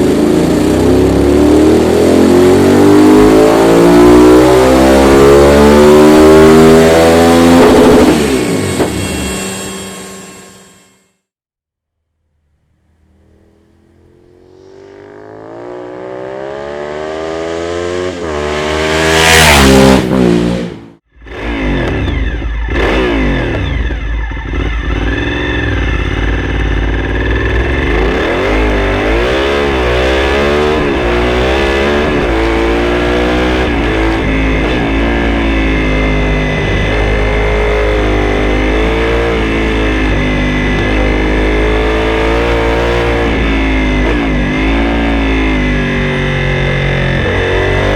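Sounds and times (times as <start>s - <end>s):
motorcycle engine revving: 0.0s - 10.4s, 12.4s - 47.9s.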